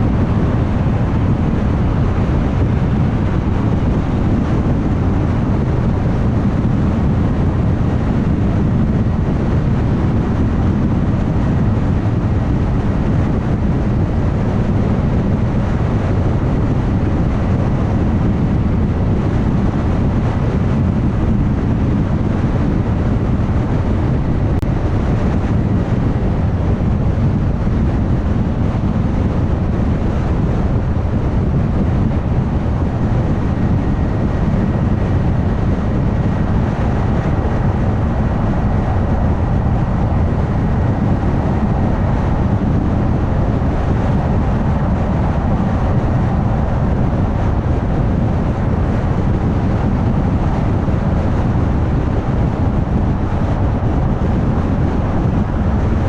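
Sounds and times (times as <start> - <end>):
car tyre and road noise: 0.0 - 56.0.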